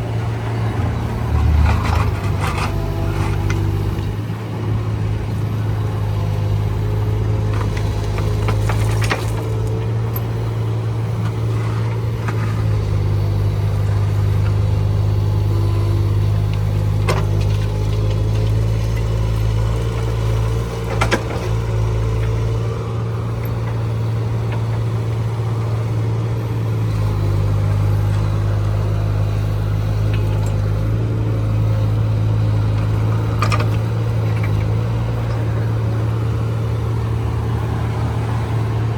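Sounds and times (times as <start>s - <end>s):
mini excavator engine running: 0.0s - 38.9s.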